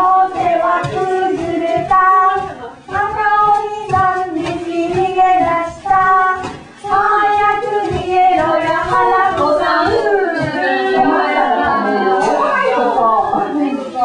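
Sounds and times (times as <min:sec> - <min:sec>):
women and children singing: 0:00.0 - 0:14.0.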